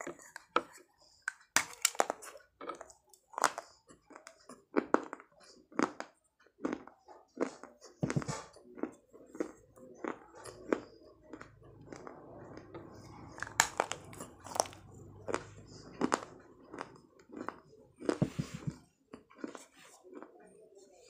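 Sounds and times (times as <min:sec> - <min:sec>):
crunchy chewing: 0:01.4 - 0:20.6.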